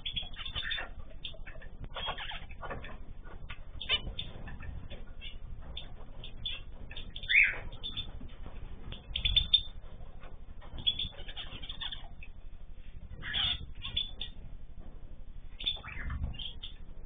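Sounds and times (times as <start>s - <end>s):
cage birds chirping: 0.0s - 17.0s.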